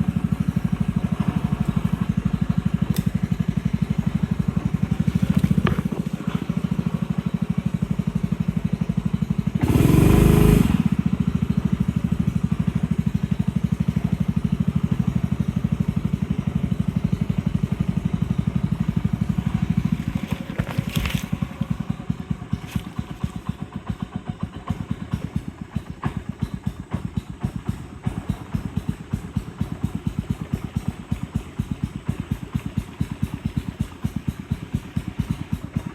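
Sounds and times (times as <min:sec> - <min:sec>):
boat engine pulsing: 0:00.0 - 0:35.9.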